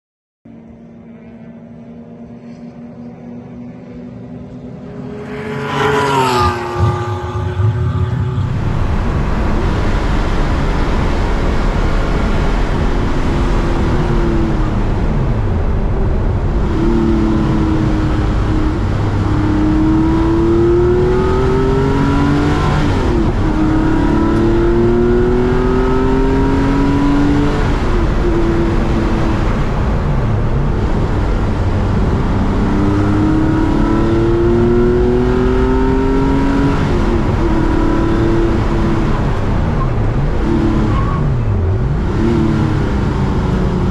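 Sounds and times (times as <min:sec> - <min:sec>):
race car engine revving: 0:01.5 - 0:43.9.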